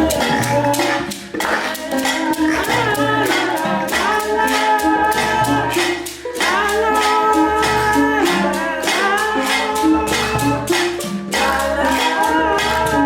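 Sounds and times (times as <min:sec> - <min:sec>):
shaken rattle beat: 0:00.0 - 0:13.0
voices singing held phrases: 0:00.0 - 0:13.0.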